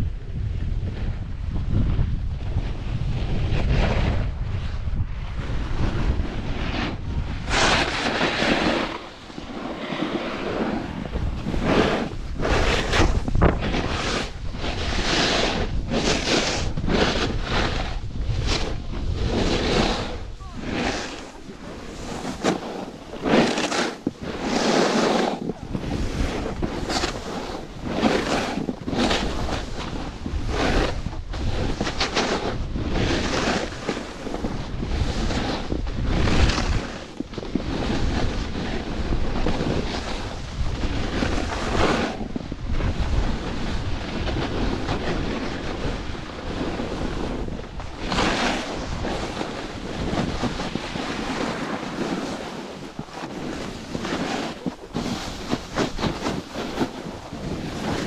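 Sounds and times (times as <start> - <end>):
wind on microphone: 0.0 - 58.0
snowboard edges scraping snow: 1.9 - 58.0.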